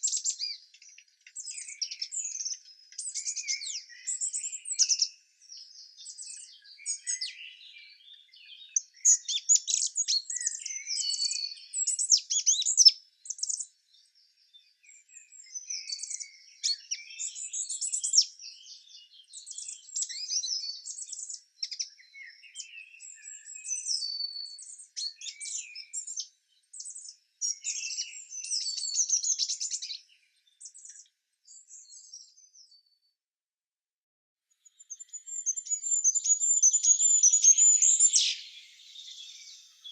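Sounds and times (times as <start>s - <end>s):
songbirds chirping and singing: 0.0s - 33.1s, 34.6s - 39.9s.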